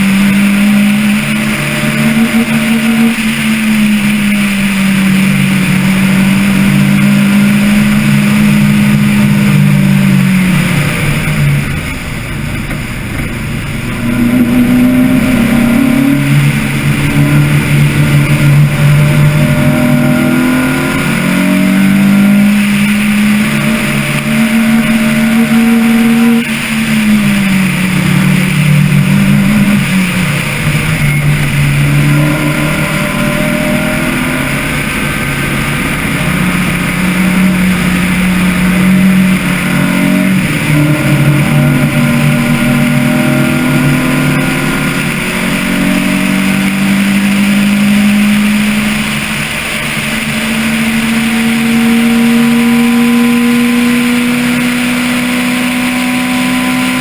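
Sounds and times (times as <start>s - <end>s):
vehicle engine at speed: 0.0s - 57.0s
wind and road noise: 0.0s - 57.0s.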